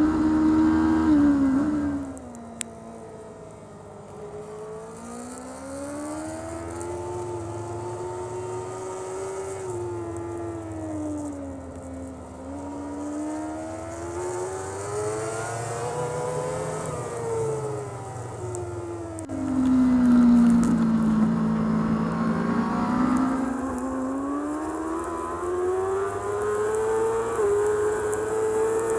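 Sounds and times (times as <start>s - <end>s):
motorcycle engine revving: 0.0s - 3.0s, 4.2s - 28.9s.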